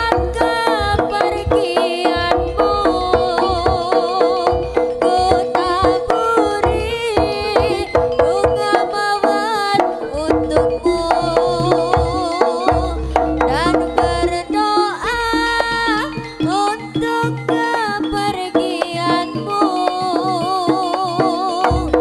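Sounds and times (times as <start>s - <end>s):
hand drumming: 0.0s - 22.0s
sliding wavering melody: 0.0s - 22.0s.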